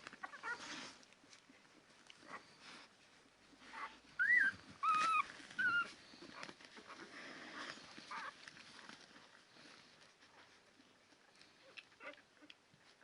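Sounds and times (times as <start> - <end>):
puppies whining: 0.0 - 1.0, 2.2 - 13.0
soft shuffling: 0.0 - 13.0.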